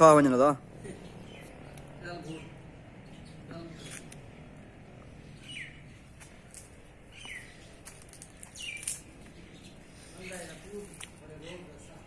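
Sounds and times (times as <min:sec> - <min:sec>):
bird chirping: 0:00.7 - 0:12.0.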